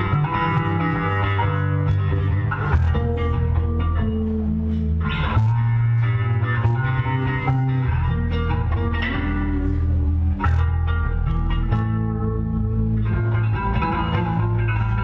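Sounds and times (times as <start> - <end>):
electric bass guitar ringing notes: 0.0 - 15.0.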